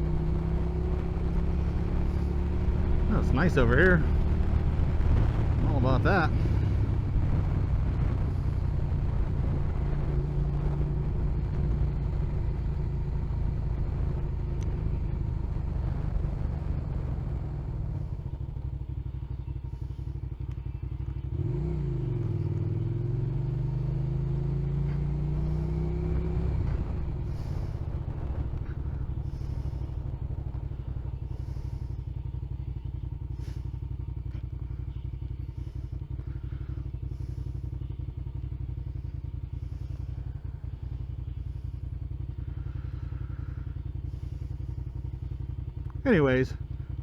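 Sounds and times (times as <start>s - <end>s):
motorcycle engine running: 0.0s - 47.0s
road and wind noise: 0.0s - 47.0s.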